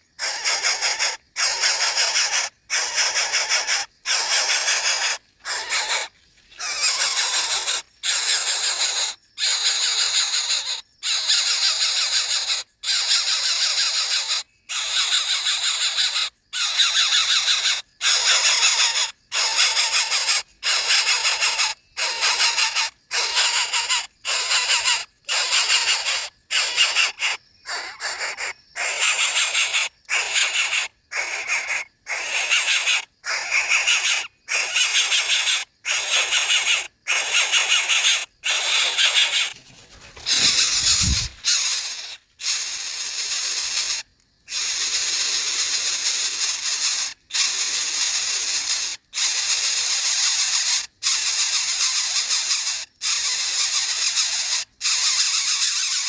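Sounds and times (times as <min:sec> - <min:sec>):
nestling birds begging calls: 0:00.0 - 0:56.0.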